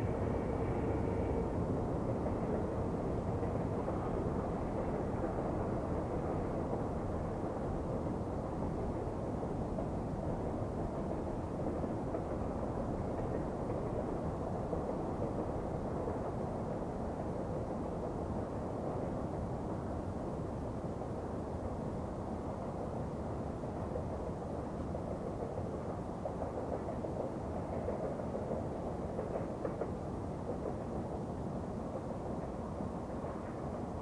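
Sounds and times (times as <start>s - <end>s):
distant locomotive rumble: 0.0s - 34.0s.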